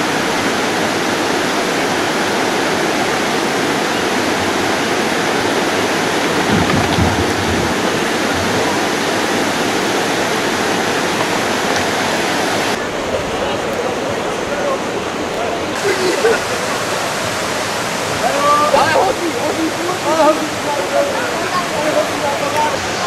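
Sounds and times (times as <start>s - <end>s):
water rushing over weir: 0.0s - 23.0s.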